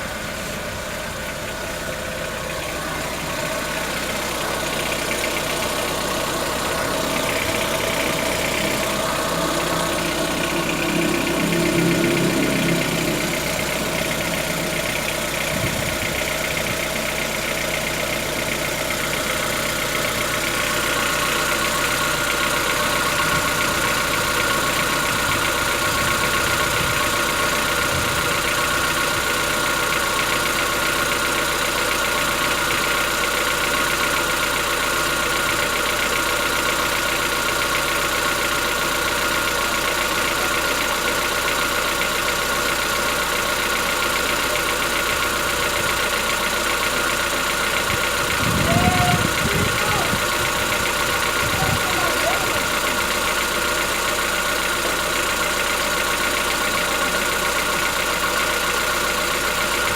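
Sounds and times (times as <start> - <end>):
car engine idling with clatter: 0.0 - 59.9.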